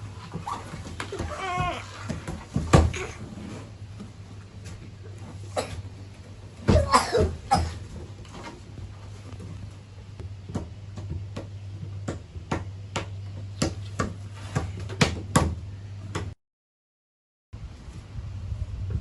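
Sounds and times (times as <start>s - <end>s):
low steady hum: 0.0s - 16.4s.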